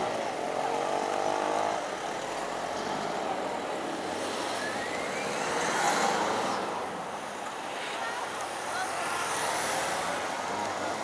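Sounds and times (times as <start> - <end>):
vehicles driving by: 0.0 - 11.0.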